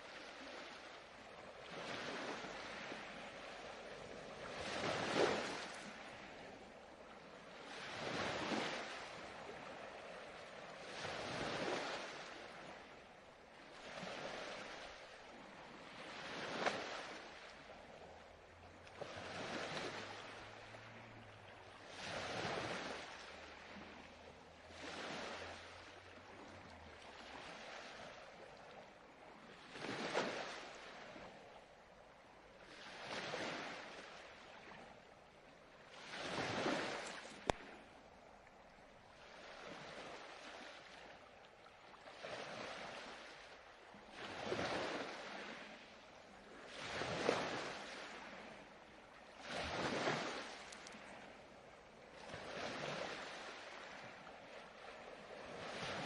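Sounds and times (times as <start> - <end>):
ocean waves washing in: 0.0 - 35.1, 35.8 - 56.0.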